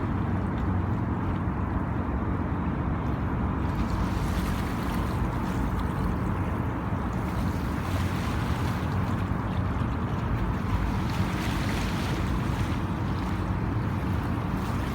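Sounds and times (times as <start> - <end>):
water noise: 0.0 - 14.9.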